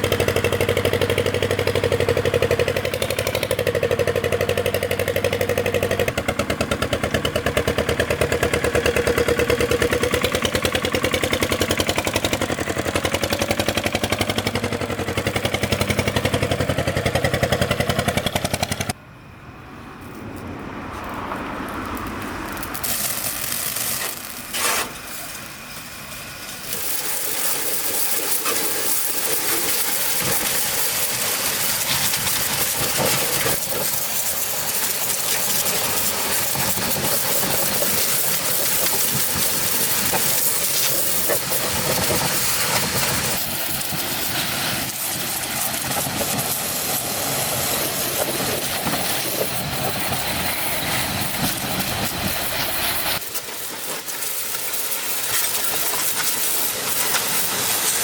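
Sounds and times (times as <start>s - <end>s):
hiss: 0.0s - 18.9s, 21.8s - 58.0s
farm vehicle engine running: 0.0s - 58.0s.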